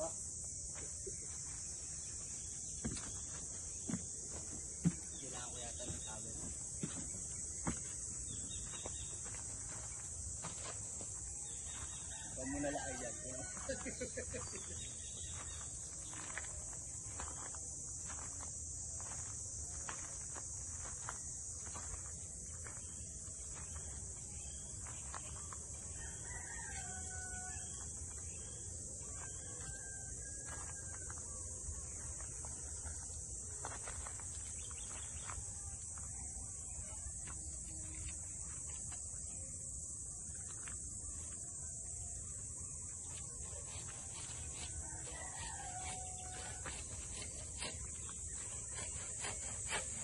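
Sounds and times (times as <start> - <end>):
high-pitched insect drone: 0.0 - 50.0
footsteps crunching on gravel: 0.7 - 39.2, 42.5 - 50.0.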